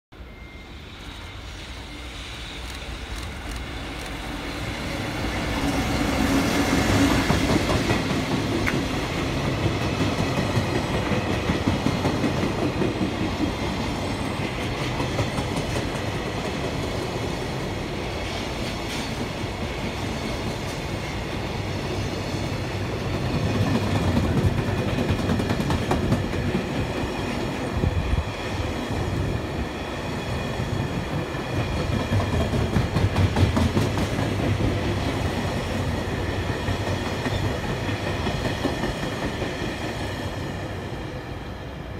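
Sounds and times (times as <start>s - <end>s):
electric locomotive passing: 0.2s - 41.9s.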